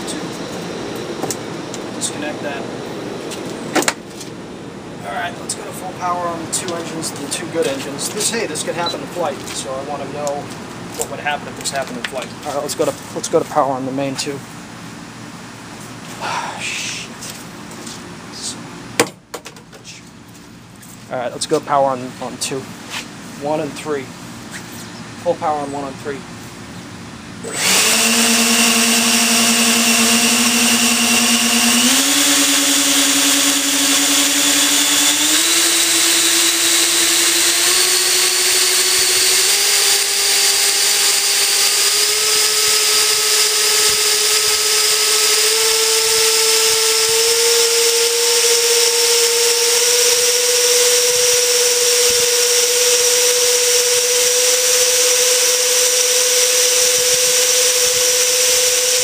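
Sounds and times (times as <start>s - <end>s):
electric ducted fans whining: 0.0s - 59.0s.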